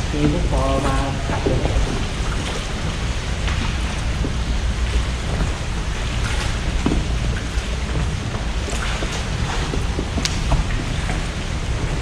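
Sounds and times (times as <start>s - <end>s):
water noise: 0.0s - 12.0s
wind rumbling on the microphone: 0.0s - 12.0s.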